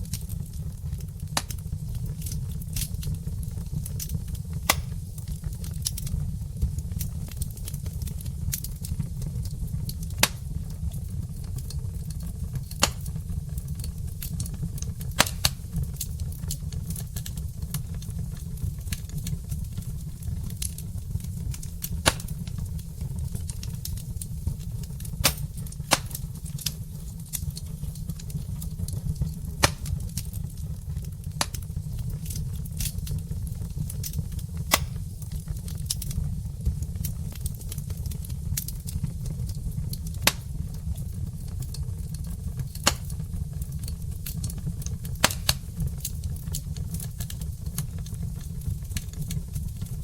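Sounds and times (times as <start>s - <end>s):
log fire crackling and popping: 0.0s - 50.0s
low fire rumble: 0.0s - 50.0s.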